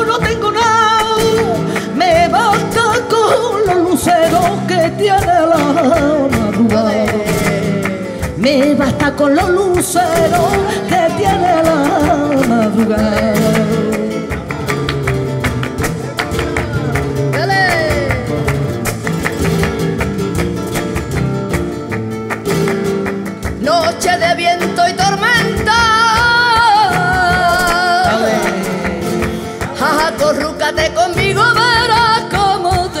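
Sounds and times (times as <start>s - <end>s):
acoustic guitars strumming: 0.0s - 33.0s
hand clapping: 0.0s - 33.0s
percussion: 0.0s - 33.0s.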